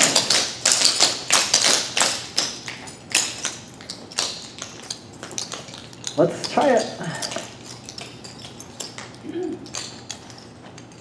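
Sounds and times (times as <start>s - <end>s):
tap shoes clicking on hard floor: 0.0s - 11.0s.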